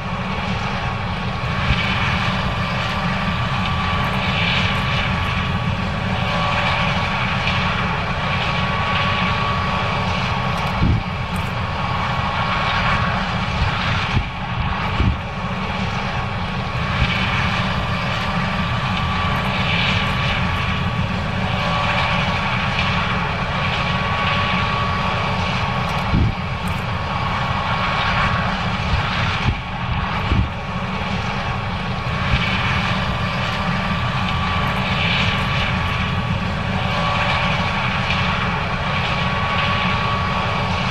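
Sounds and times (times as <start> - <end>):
combine engine drone: 0.0 - 40.9
thin steady whine: 0.0 - 40.9.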